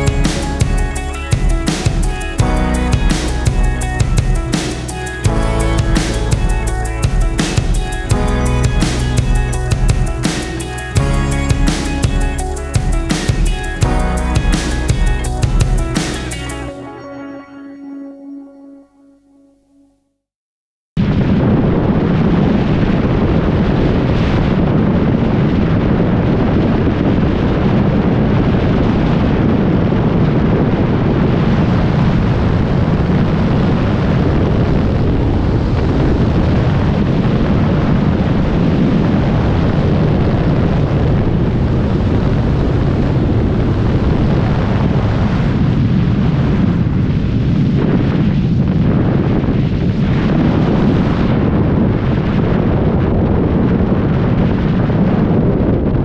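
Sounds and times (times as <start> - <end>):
wind buffeting microphone: 0.0 - 16.3, 21.0 - 56.0.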